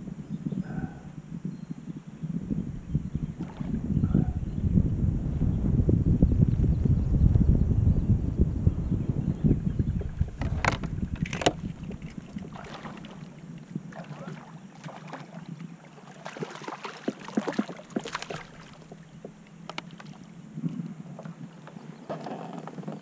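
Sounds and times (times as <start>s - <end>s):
wind rumble on microphone: 0.0s - 23.0s
water lapping against hull: 0.5s - 5.6s, 8.8s - 23.0s.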